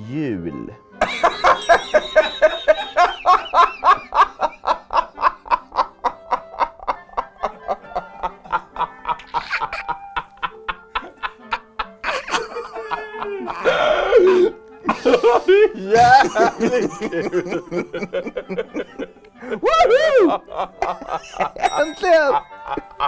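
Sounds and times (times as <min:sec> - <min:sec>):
person laughing hard: 0:01.0 - 0:23.0.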